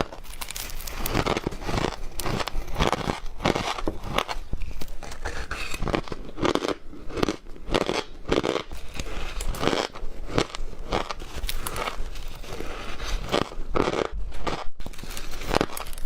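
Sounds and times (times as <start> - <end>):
ice being chewed: 0.0 - 16.0.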